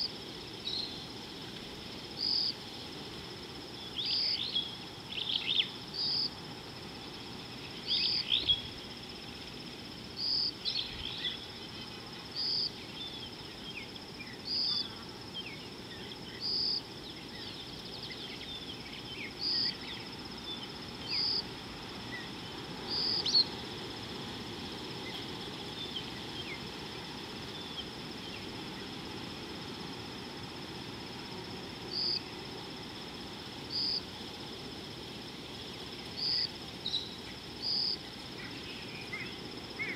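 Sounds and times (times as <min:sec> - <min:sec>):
high insect drone: 0:00.0 - 0:39.9
wild birds chirping: 0:00.0 - 0:39.9.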